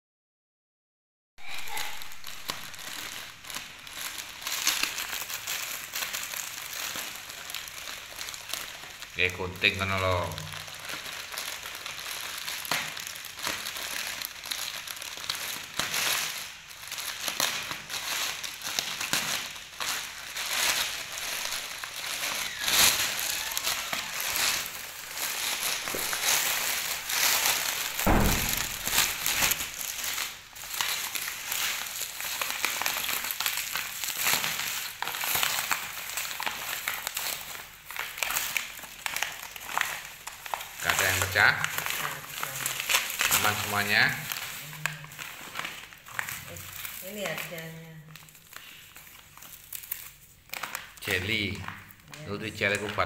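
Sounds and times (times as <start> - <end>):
foil sachets rustling: 1.4 - 53.0
plastic bag and bubble wrap crinkling: 1.4 - 53.0.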